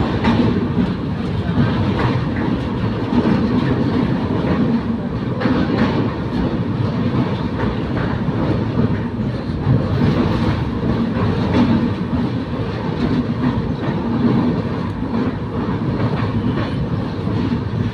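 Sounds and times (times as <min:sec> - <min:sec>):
train wheels rumbling on track: 0:00.0 - 0:17.9.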